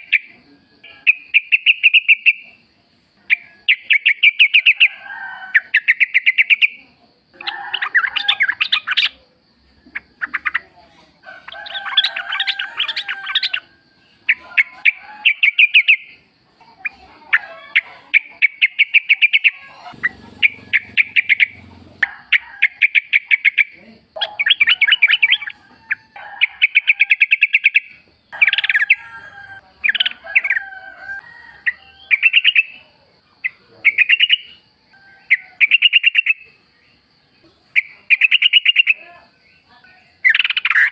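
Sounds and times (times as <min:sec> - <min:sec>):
bulbuls bubbling chatter: 0:05.8 - 0:40.9.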